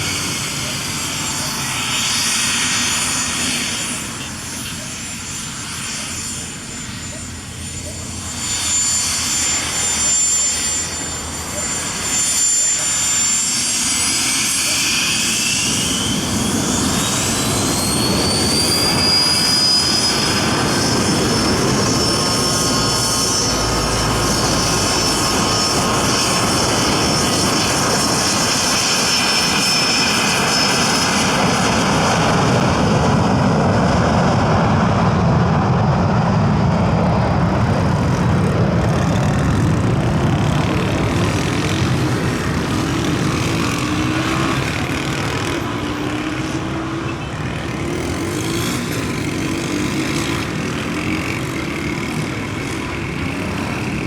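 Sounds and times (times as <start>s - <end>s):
jet engine high whine: 0.0s - 54.0s
jet rumble: 0.0s - 54.0s.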